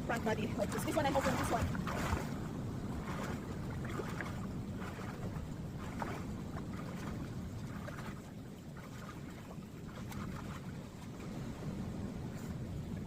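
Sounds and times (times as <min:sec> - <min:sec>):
pool water sloshing and splashing: 0:00.0 - 0:13.0.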